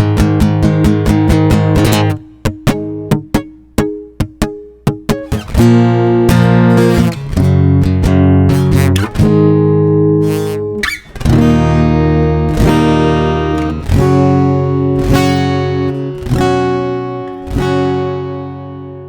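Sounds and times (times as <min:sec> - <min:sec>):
acoustic guitar strummed chords: 0:00.0 - 0:19.0.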